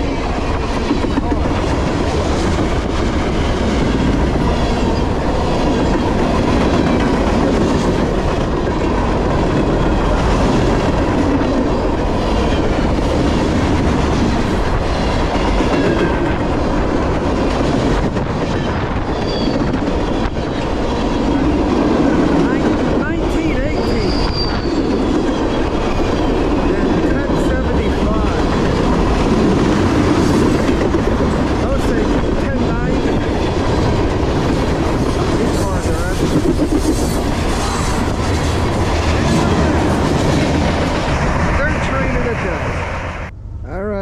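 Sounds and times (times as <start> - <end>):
freight train rumbling past: 0.0 - 44.0.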